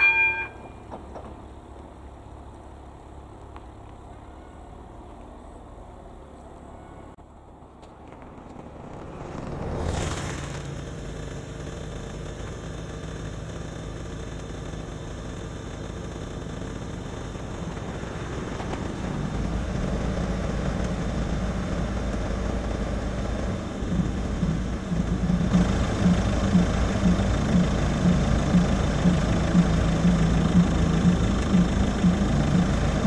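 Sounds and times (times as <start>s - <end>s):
car engine idling: 0.0s - 7.8s, 8.9s - 33.0s.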